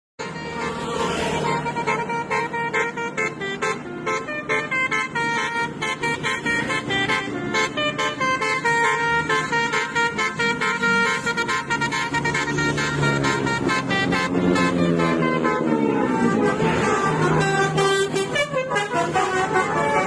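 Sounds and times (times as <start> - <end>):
multi-tone air horns melody: 0.2 - 20.0.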